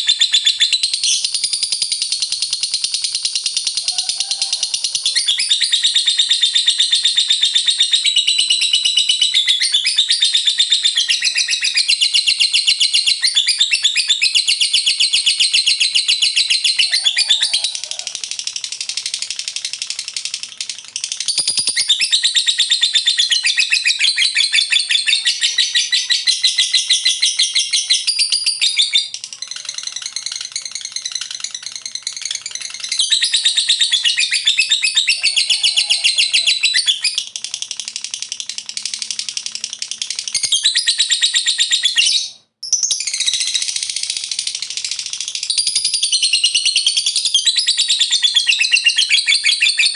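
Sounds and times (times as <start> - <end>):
lovebird chattering: 0.0 - 49.9.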